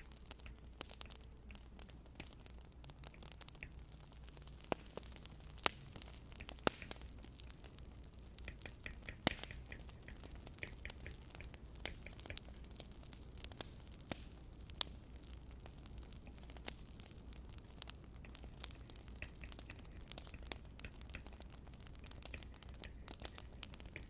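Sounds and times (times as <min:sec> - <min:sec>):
low steady hum: 0:00.0 - 0:24.0
wood fire crackling: 0:00.0 - 0:24.0.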